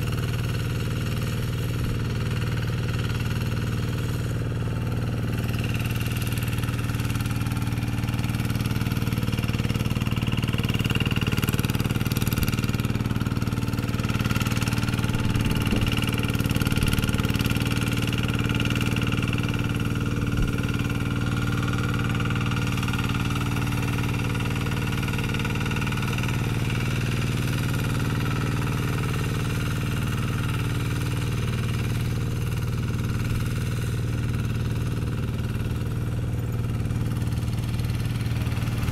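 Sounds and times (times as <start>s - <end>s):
hand tractor diesel engine running: 0.0s - 38.9s.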